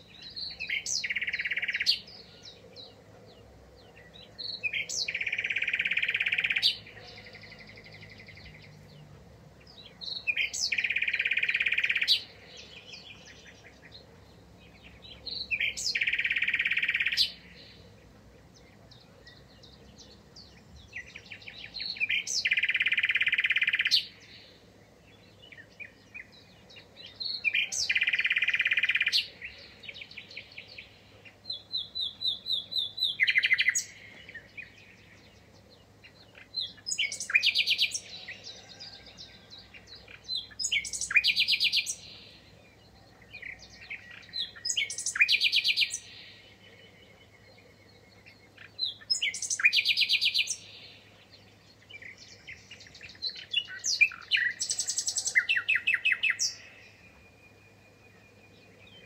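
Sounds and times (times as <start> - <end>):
songbird chirps and trills: 0.0 - 59.0.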